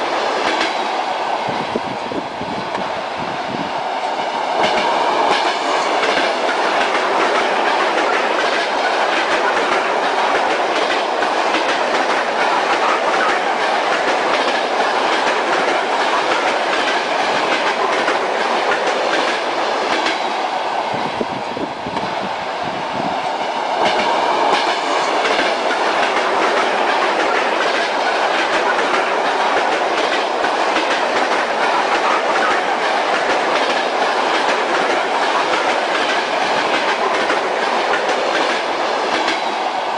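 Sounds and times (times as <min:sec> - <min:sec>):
train wheels clacking over rails: 0:00.0 - 0:01.9, 0:02.6 - 0:39.9.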